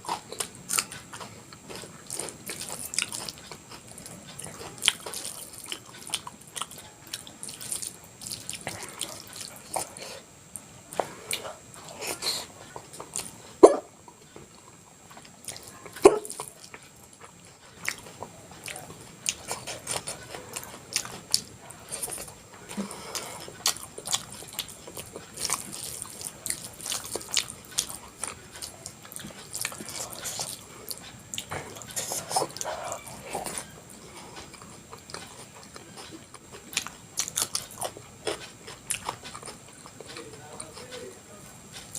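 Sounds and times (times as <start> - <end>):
wet chewing: 0.0 - 41.9.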